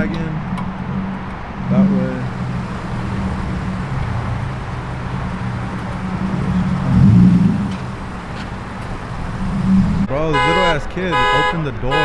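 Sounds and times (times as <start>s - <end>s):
car engine droning: 1.3s - 12.0s
car passing close by: 1.4s - 11.2s.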